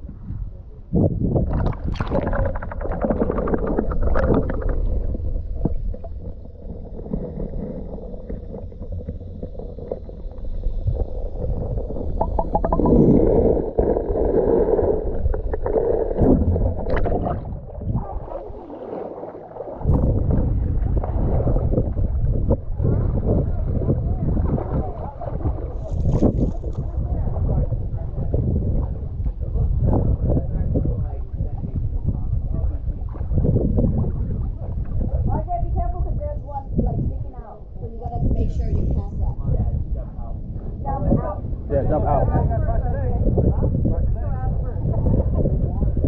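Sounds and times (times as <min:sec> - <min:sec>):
steady low rumble: 0:00.0 - 0:46.0
water splashing and sloshing: 0:01.3 - 0:46.0.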